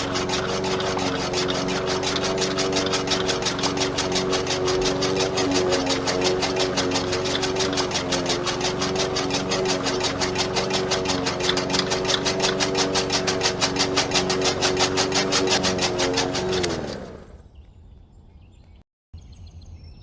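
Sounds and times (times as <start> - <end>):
small motor humming with ticking: 0.0 - 17.4.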